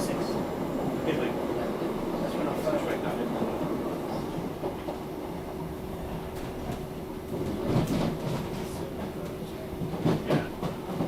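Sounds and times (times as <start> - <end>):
train interior running noise: 0.0 - 11.0
train clatter: 1.0 - 5.1, 6.2 - 11.0.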